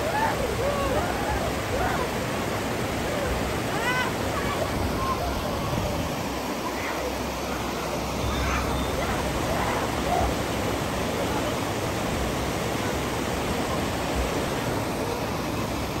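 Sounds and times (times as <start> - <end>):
faint voices: 0.0 - 16.0
river rushing over boulders: 0.0 - 16.0.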